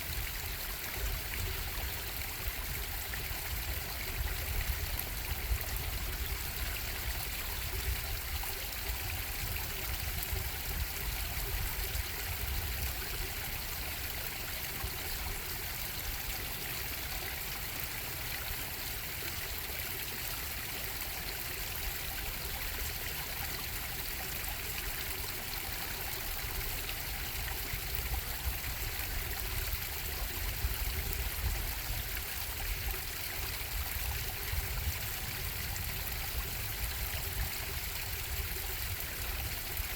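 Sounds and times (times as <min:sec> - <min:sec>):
bubbling stream: 0:00.0 - 0:39.9.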